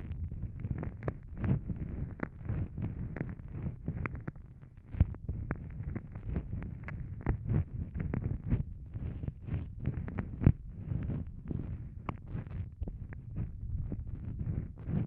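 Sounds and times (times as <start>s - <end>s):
muffled low rumble: 0.0s - 15.0s.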